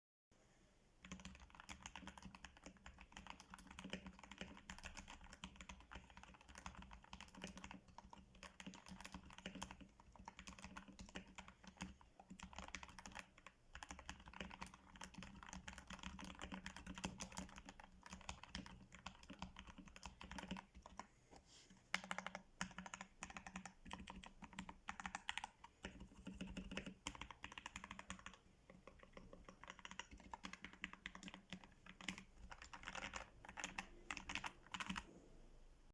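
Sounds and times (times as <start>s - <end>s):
mechanical keyboard typing: 1.0s - 21.1s, 21.9s - 35.0s.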